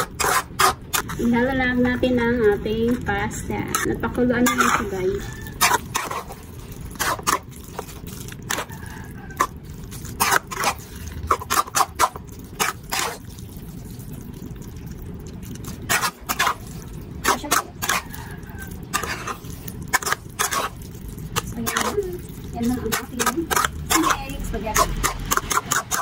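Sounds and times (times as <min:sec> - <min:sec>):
spoon scraping a metal pot: 0:00.0 - 0:02.0, 0:03.5 - 0:13.3, 0:15.6 - 0:26.0
wet squishing of noodles: 0:00.0 - 0:26.0.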